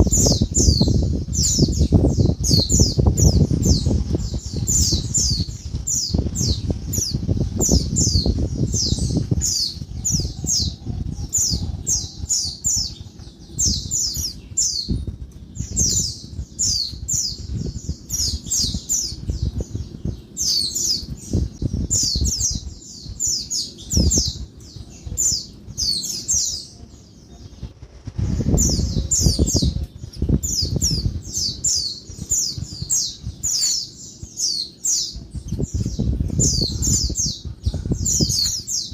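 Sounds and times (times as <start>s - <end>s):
bird chirping: 0.0s - 38.9s
low rumbling and thumps: 0.0s - 38.9s.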